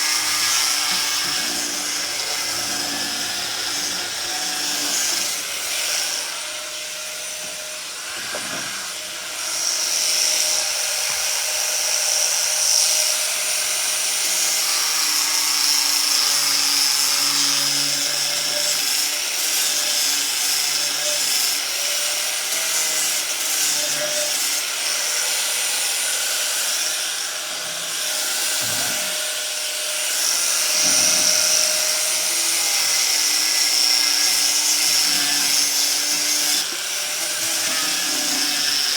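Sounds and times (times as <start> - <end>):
angle grinder sanding wood: 0.0 - 38.9.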